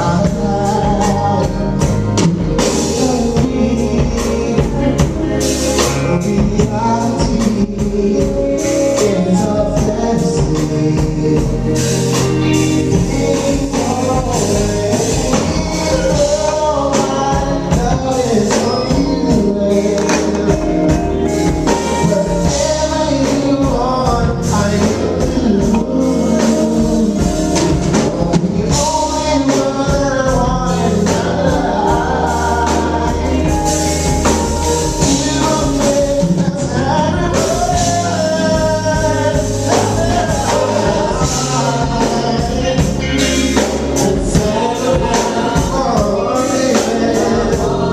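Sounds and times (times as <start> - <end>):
bass line: 0.0 - 47.9
drum kit: 0.0 - 47.9
funk band playing live: 0.0 - 47.9
person singing: 0.0 - 47.9.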